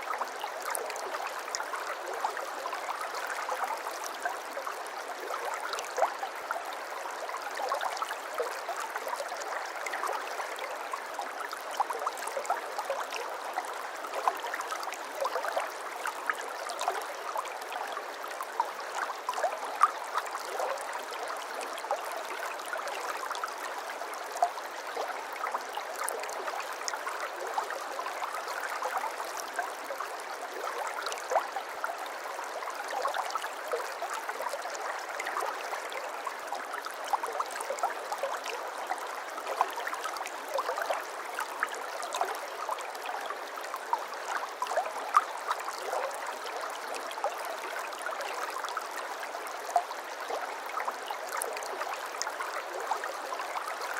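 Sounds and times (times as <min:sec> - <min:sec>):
stream trickling: 0:00.0 - 0:53.9.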